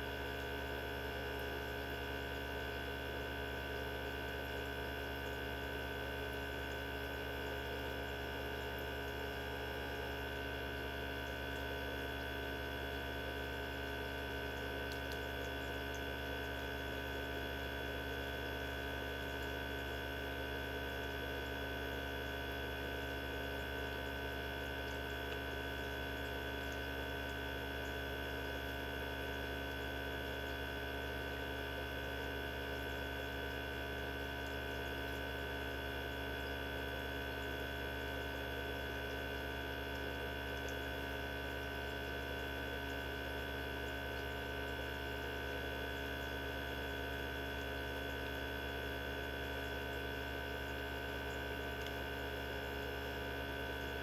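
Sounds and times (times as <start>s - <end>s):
centrifuge motor hum and whine: 0.0s - 54.0s.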